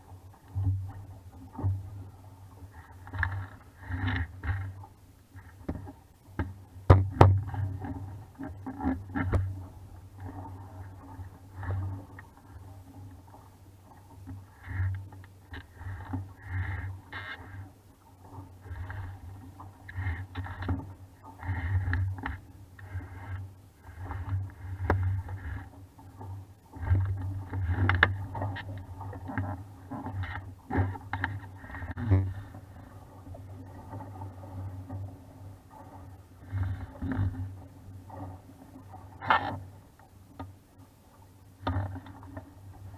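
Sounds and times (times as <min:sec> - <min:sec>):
water splashing against hull: 0:00.0 - 0:42.9.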